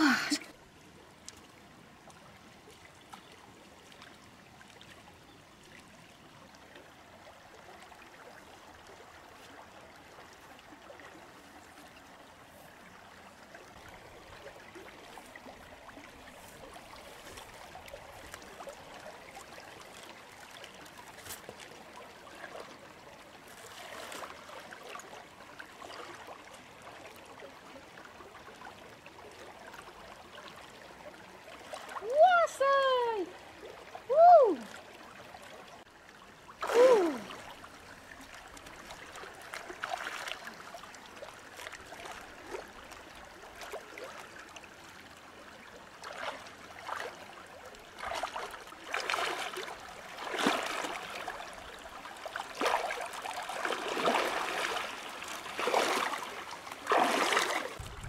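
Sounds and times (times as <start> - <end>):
stream running over stones: 0.0 - 58.0.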